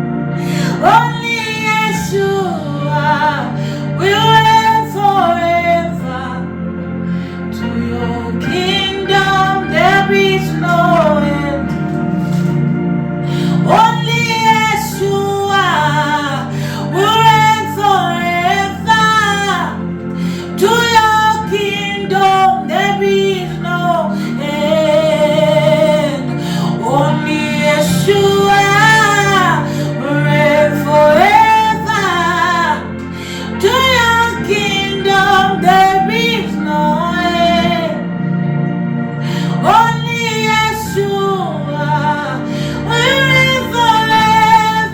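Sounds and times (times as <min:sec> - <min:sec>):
woman singing with vibrato: 0:00.0 - 0:06.5, 0:07.2 - 0:38.0, 0:39.2 - 0:44.9
sustained backing chords: 0:00.0 - 0:44.9.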